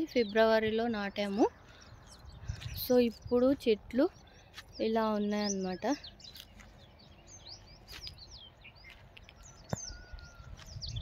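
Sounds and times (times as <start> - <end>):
birds chirping: 0.0 - 11.0
faint outdoor background: 0.0 - 11.0.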